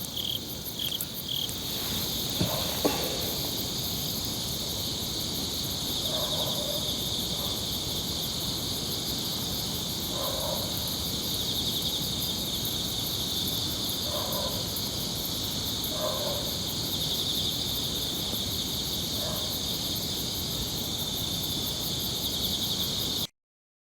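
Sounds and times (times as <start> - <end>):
crickets chirring: 0.0 - 23.3
fainter lower insect calls: 0.0 - 23.3.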